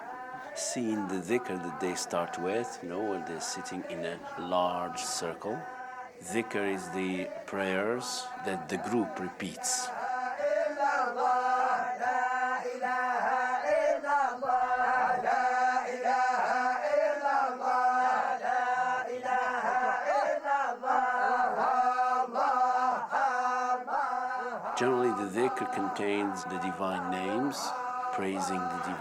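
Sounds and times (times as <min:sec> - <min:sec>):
group chanting in unison: 0:00.0 - 0:29.0.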